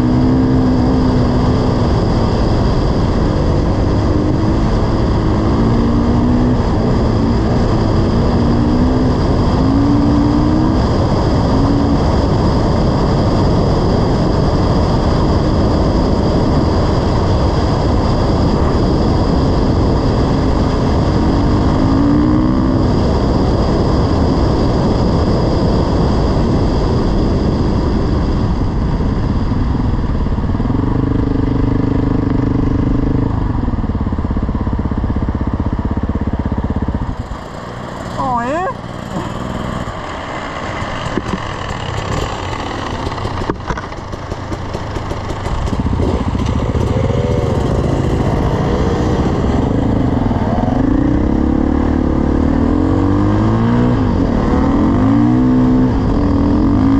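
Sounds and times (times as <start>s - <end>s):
dirt bike engine: 0.0s - 56.9s
heavy wind rush: 0.0s - 56.9s.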